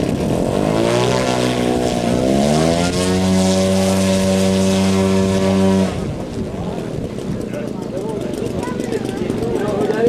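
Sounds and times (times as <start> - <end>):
model aircraft engine running: 0.0 - 10.0.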